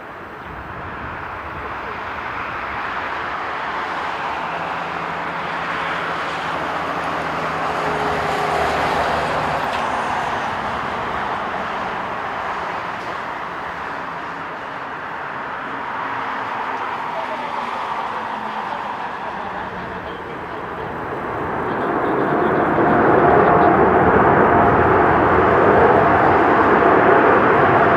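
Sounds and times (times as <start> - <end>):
jet airliner passing: 0.0 - 27.9.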